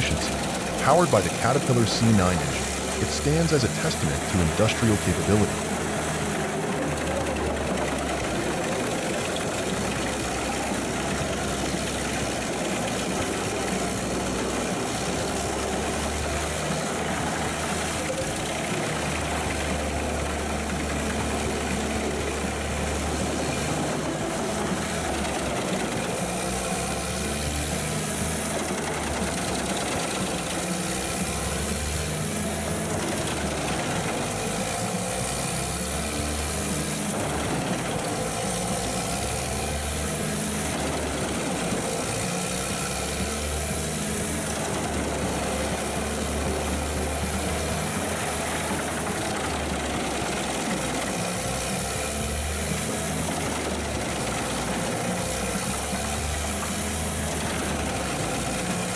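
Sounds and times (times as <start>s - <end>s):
wood chipper diesel engine running: 0.0s - 58.9s.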